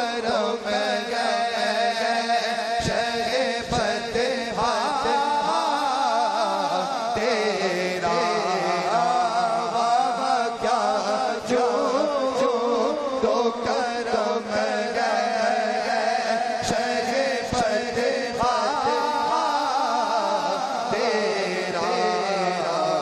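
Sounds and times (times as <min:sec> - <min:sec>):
man singing through microphone: 0:00.0 - 0:23.0.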